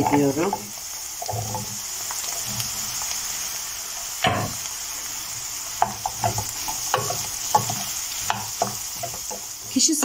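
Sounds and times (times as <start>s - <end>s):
potatoes sizzling in a pan: 0.0s - 10.0s.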